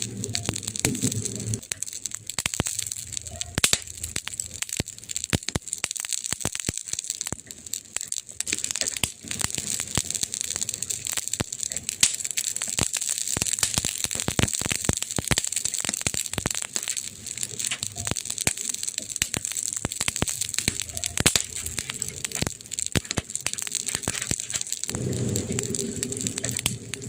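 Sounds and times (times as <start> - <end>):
campfire crackling and popping: 0.0 - 27.0
fire hiss: 0.0 - 27.0.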